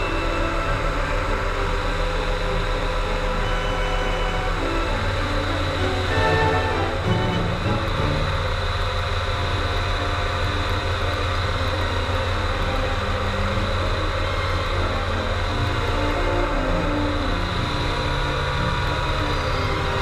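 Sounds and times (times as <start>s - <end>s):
aircraft engine running in flight: 0.0s - 20.0s.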